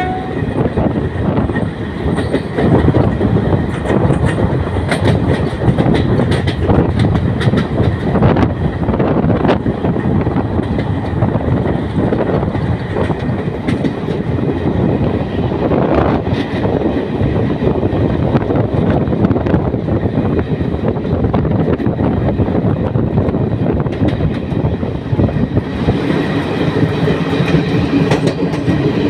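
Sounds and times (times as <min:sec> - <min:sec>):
train clatter: 0:00.0 - 0:29.0
train wheels rumbling on rails: 0:00.0 - 0:29.0.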